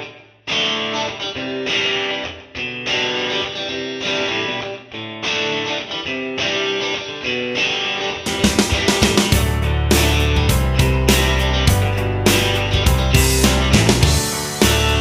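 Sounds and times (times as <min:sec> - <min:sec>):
strummed guitar chords: 0:00.0 - 0:15.0.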